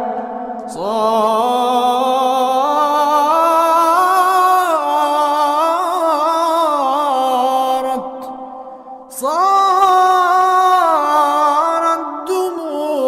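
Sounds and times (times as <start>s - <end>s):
man singing wordless melisma: 0.0s - 13.0s.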